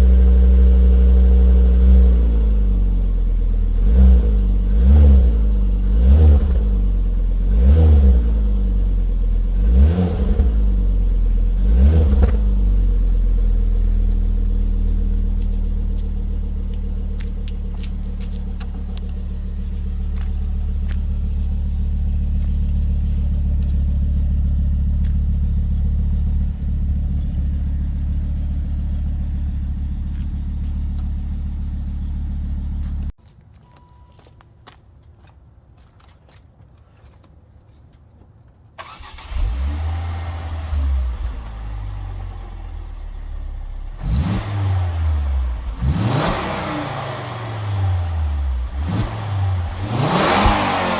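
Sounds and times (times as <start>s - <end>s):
car engine idling: 0.0s - 33.1s, 38.8s - 50.9s
car engine revving: 0.0s - 33.1s, 38.8s - 50.9s.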